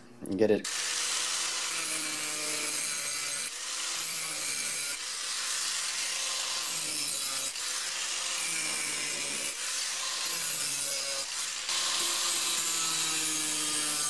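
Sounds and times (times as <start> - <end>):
angle grinder running: 0.6 - 14.0
grinder disc cutting steel plate: 0.7 - 14.0.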